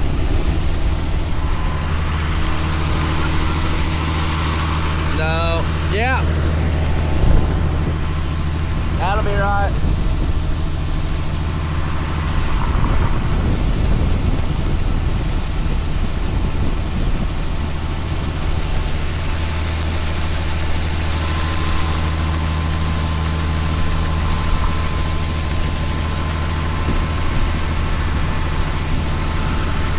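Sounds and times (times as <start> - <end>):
constant hiss: 0.0 - 29.9
diesel engine droning: 0.0 - 29.9
faint steady whine: 0.0 - 29.9.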